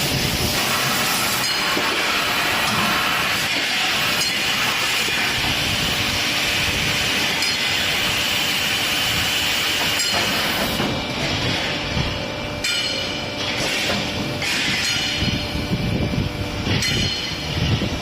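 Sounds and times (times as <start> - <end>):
heavy machinery hiss and rumble: 0.0 - 18.0.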